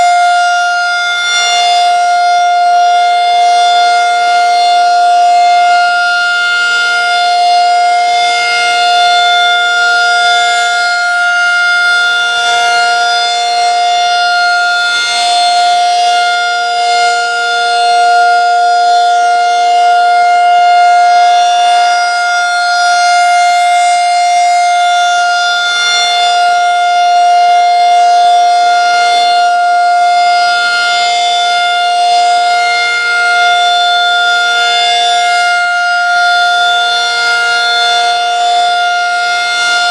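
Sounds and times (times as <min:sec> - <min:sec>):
dual-tone tornado siren: 0:00.0 - 0:39.9.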